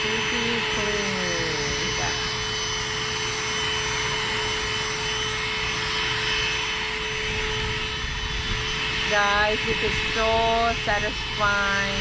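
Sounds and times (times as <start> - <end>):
handheld vacuum cleaner running: 0.0 - 12.0.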